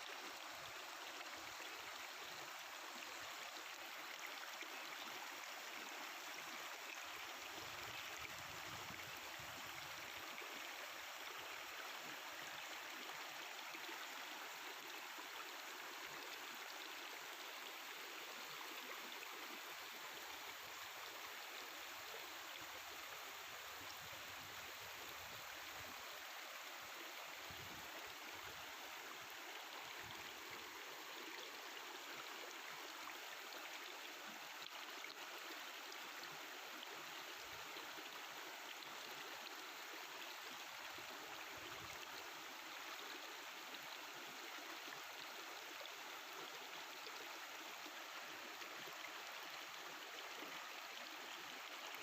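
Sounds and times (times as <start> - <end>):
river babbling: 0.0 - 52.0.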